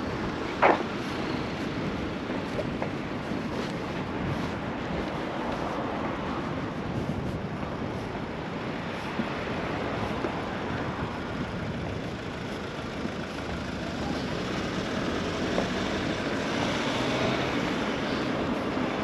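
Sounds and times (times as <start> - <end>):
car approaching: 0.0 - 19.0
road traffic hiss and hum: 0.0 - 19.0.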